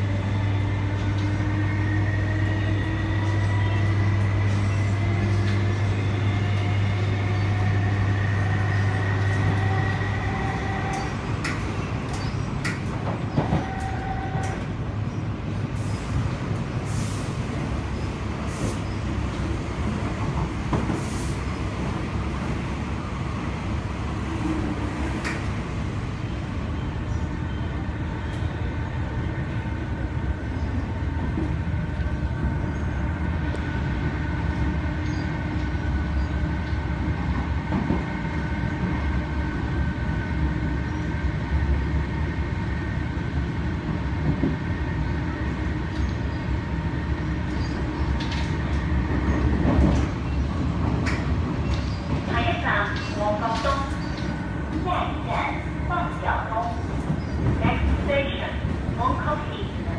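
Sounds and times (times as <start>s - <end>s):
wheels rumbling on track: 0.0s - 59.9s.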